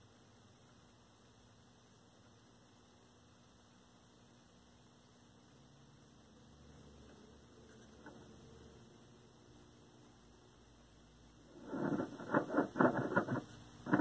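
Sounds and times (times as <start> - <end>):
faint mains hum from radio: 0.0 - 14.0.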